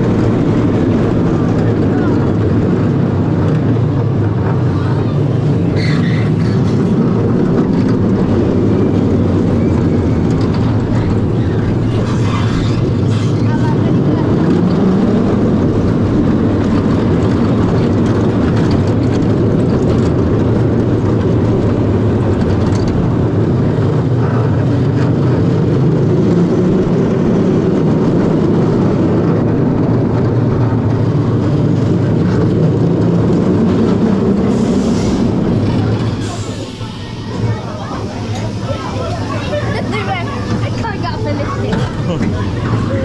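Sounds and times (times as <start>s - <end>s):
roller coaster rumbling on track: 0.0s - 43.0s.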